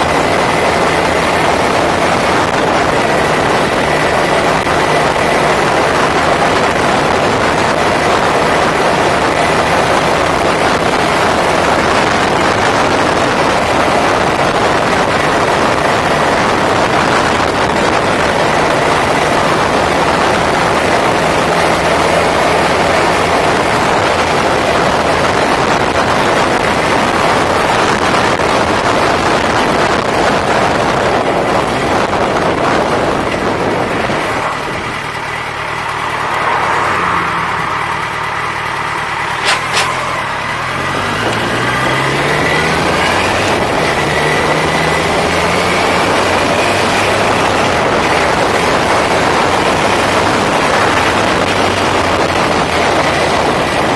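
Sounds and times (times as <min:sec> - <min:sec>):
motorcycle engine: 0:00.0 - 0:53.9
wind rush on microphone: 0:00.0 - 0:53.9.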